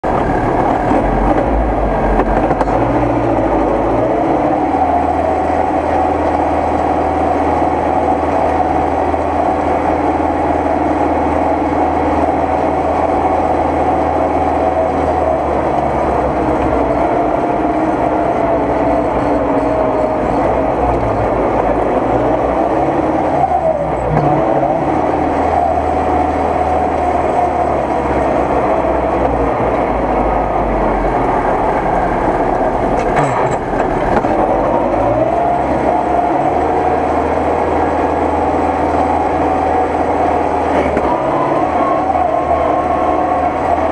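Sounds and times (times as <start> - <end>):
tractor engine running under load: 0.0 - 43.9.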